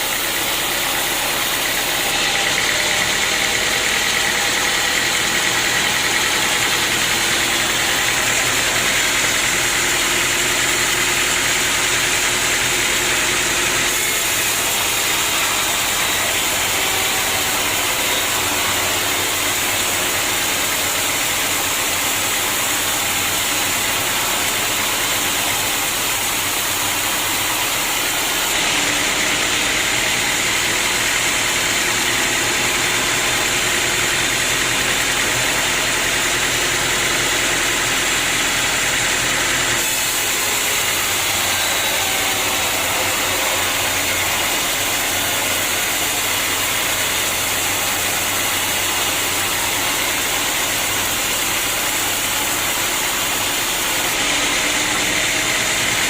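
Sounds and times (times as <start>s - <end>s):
engine hum: 0.0s - 56.0s
sawmill machinery running: 0.0s - 56.0s.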